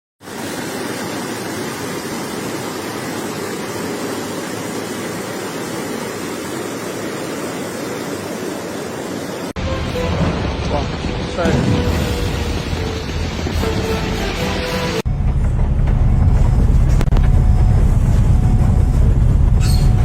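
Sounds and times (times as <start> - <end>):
torrential rain pouring: 0.2 - 20.0.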